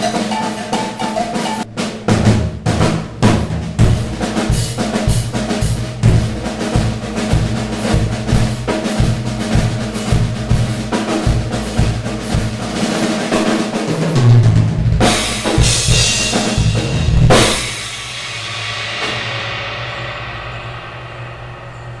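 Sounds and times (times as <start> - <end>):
drum solo on acoustic kit: 0.0 - 20.4
cymbal crashes: 3.4 - 22.0.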